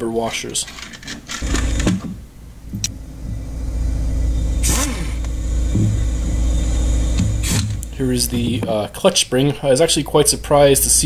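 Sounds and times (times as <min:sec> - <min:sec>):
steady low rumble: 0:01.4 - 0:11.0.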